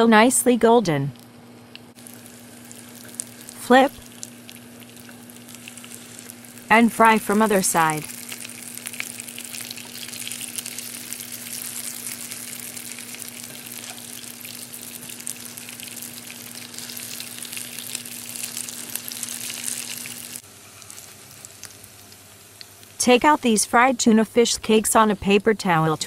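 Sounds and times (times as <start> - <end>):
low steady hum: 0.0 - 26.0
food sizzling in hot oil: 1.9 - 23.4.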